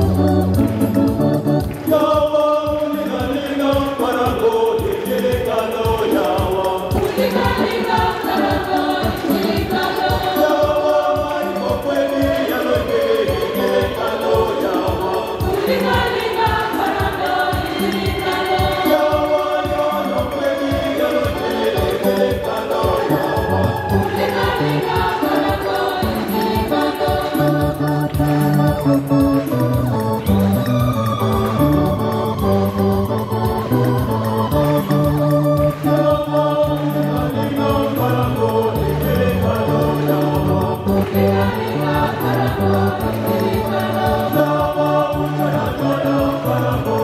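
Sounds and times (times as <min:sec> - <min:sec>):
choir singing: 0:00.0 - 0:47.0
electronic keyboard: 0:00.0 - 0:47.0
steady drum beat: 0:00.0 - 0:47.0.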